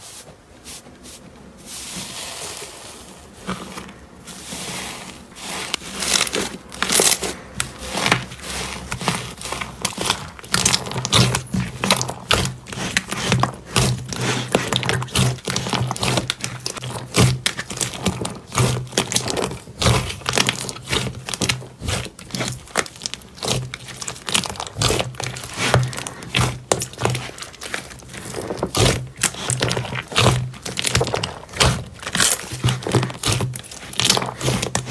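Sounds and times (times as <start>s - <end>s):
slime squished by hand: 1.7s - 34.9s.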